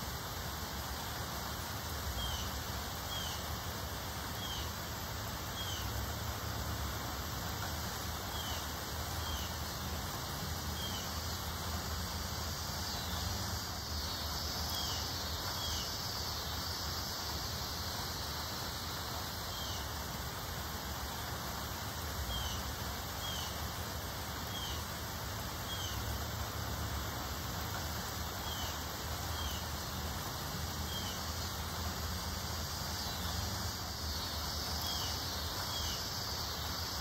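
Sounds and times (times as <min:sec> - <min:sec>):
wind rustling tree foliage: 0:00.0 - 0:37.0.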